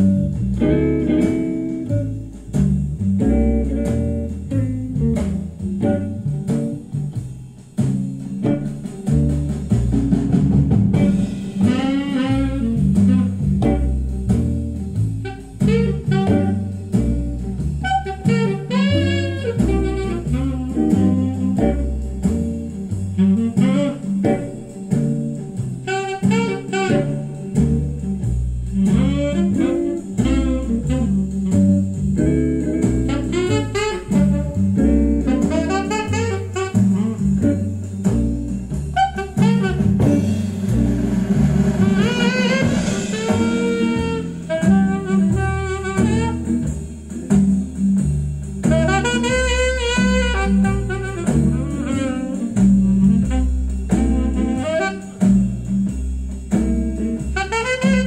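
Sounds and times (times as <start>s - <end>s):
saxophone: 0.0s - 7.1s, 10.9s - 58.0s
drums: 0.0s - 58.0s
guitar: 0.0s - 58.0s
walking bass line: 0.0s - 58.0s.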